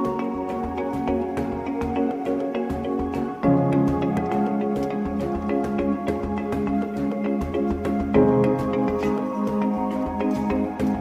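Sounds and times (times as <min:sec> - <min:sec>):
soft new-age instrumental music: 0:00.0 - 0:11.0.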